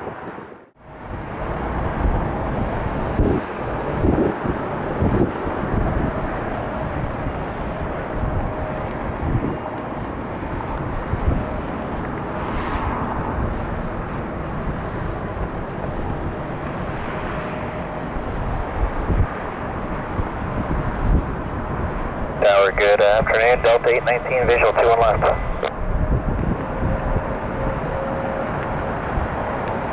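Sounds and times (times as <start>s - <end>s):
jet engines on approach: 0.0s - 29.9s
wind buffeting microphone: 0.0s - 29.9s.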